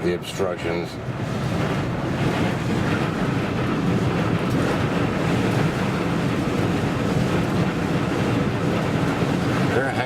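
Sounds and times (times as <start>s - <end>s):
strong wind buffeting vehicle: 0.0s - 10.0s.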